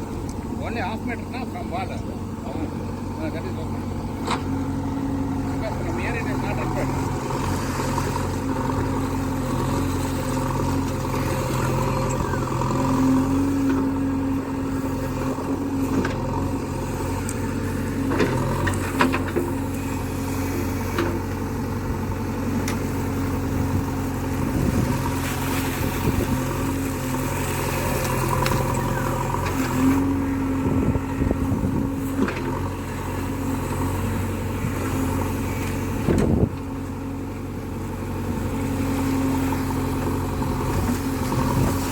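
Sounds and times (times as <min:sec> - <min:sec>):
backhoe diesel engine under load: 0:00.0 - 0:41.9.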